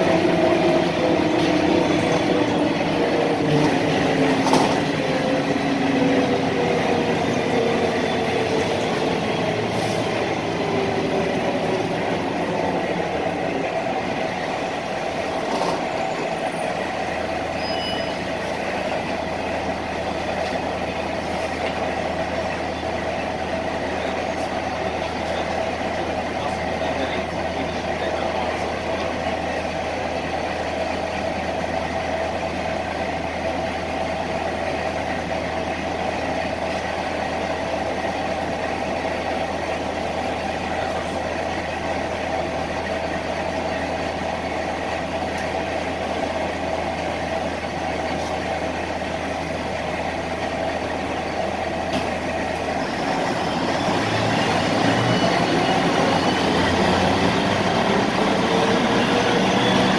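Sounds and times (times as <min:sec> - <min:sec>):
bus diesel engine: 0:00.0 - 0:59.9.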